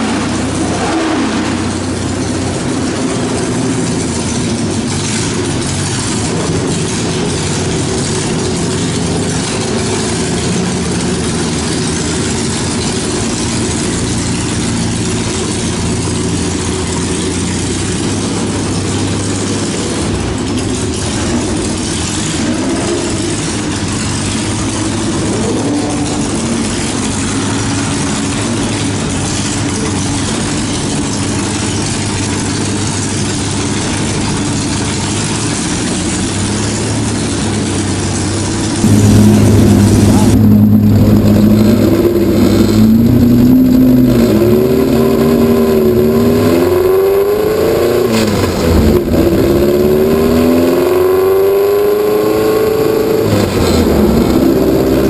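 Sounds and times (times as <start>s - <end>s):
race car engine idling: 0.0s - 55.0s.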